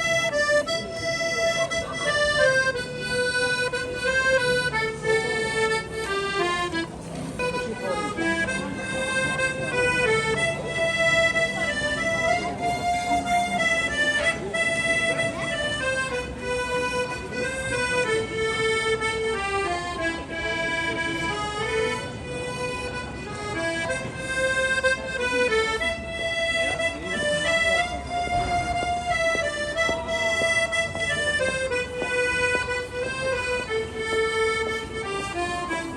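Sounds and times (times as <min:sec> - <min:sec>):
instrumental music with held notes: 0:00.0 - 0:35.9.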